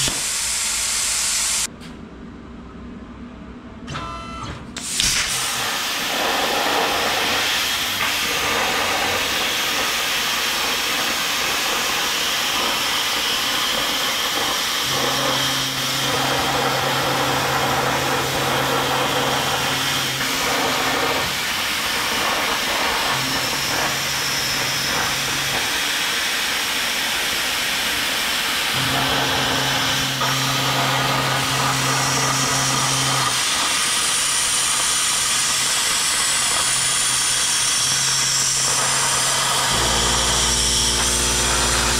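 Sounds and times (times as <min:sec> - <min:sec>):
plasma torch hissing: 0:00.0 - 0:01.7, 0:04.8 - 0:41.9.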